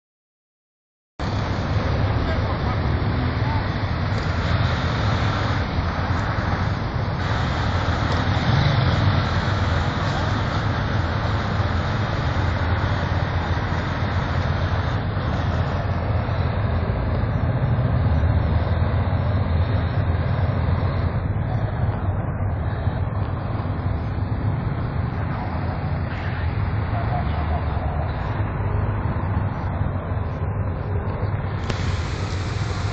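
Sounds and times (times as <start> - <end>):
low rumble of street traffic: 1.2 - 32.9
vehicle engines idling: 1.2 - 32.9.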